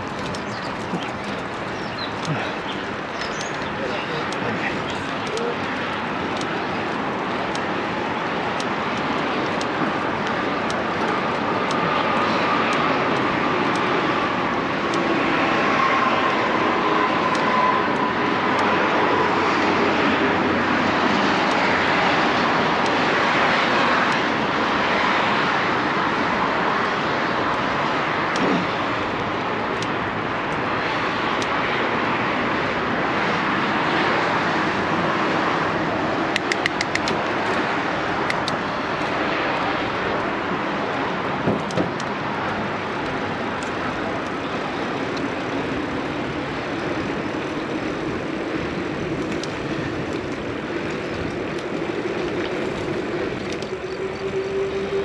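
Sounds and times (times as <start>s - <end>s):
bike clicks and rattles: 0.0s - 26.3s, 26.9s - 32.8s, 35.3s - 55.0s
wind and tyre noise: 0.0s - 55.0s.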